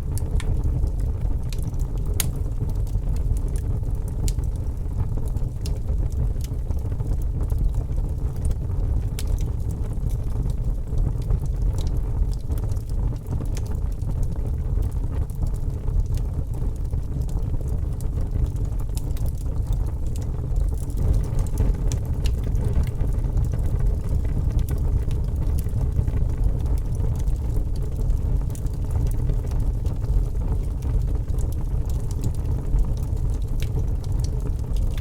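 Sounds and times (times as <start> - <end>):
fire crackling: 0.0 - 35.0.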